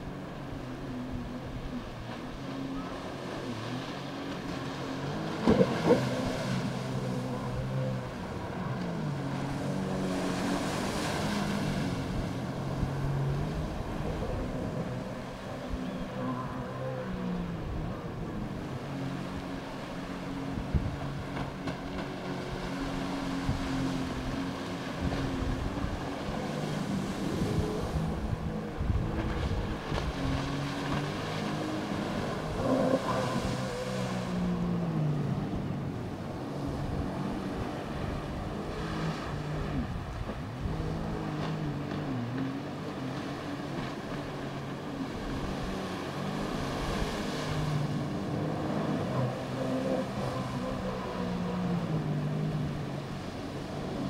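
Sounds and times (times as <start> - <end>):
jet ski engine: 0.0 - 54.0
rushing water: 0.0 - 54.0
wind: 0.0 - 54.0.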